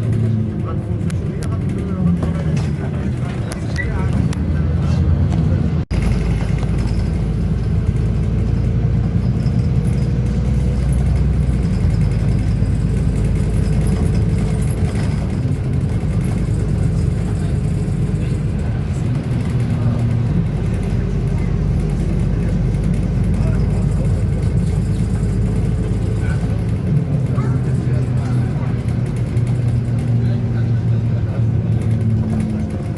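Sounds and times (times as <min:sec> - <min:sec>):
bus engine rumbling: 0:00.0 - 0:32.9
road noise: 0:00.0 - 0:32.9.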